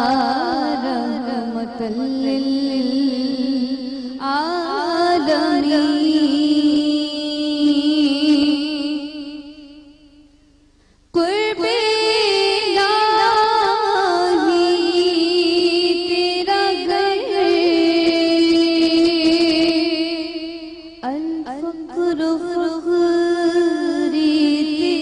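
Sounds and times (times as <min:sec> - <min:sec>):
woman singing: 0:00.0 - 0:10.2, 0:11.2 - 0:25.0.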